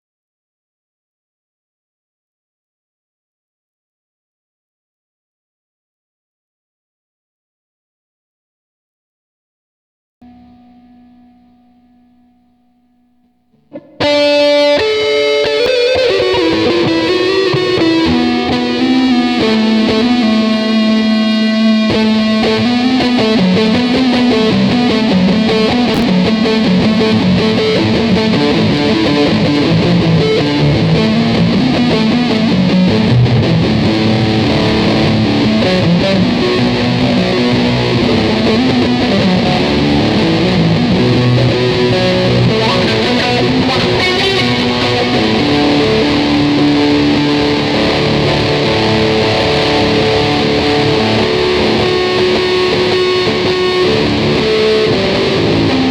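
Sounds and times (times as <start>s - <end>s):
electric guitar notes and strums: 10.2s - 55.9s.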